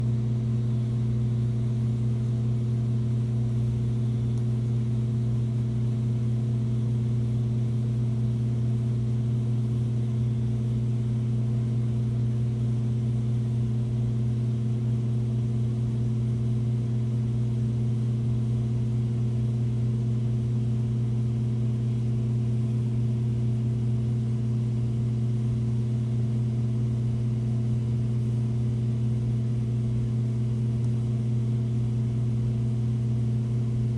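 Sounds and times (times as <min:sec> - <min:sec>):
aquarium pump humming: 0:00.0 - 0:33.9.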